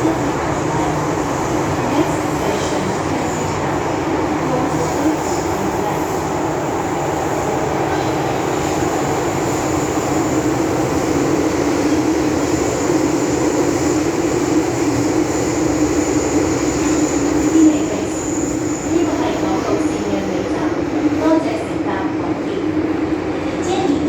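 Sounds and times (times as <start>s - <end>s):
train wheels rumbling: 0.0s - 22.3s.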